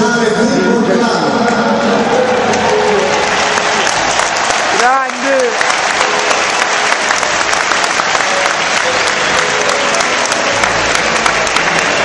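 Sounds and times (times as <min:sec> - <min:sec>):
crowd applauding: 0:01.4 - 0:12.0.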